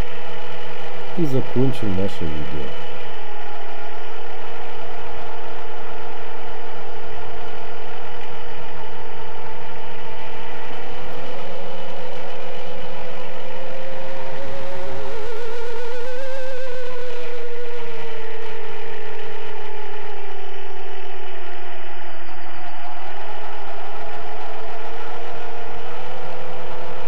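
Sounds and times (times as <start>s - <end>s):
quadcopter motors whining: 0.0s - 26.9s.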